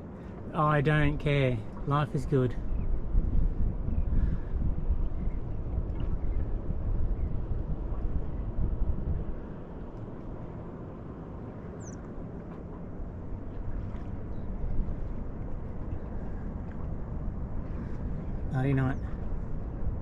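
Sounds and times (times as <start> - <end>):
wind and water rushing: 0.0 - 20.0.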